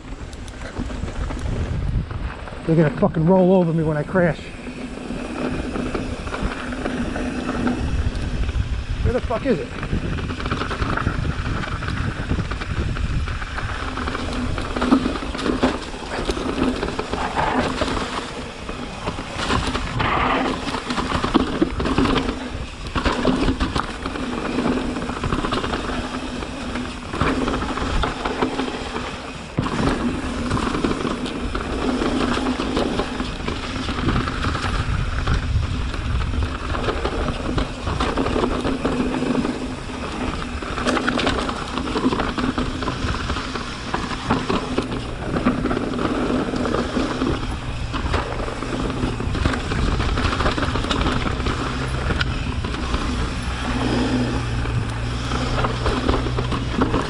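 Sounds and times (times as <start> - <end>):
bike rattling: 0.0 - 57.0
bike tyres rolling: 0.0 - 57.0
wind rushing over microphone: 0.0 - 57.0.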